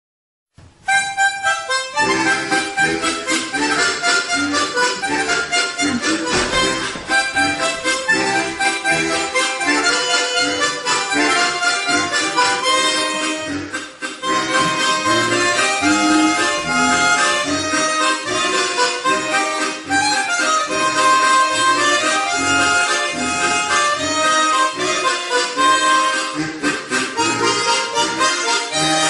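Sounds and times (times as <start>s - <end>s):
harmonica ensemble playing: 0.9s - 29.0s.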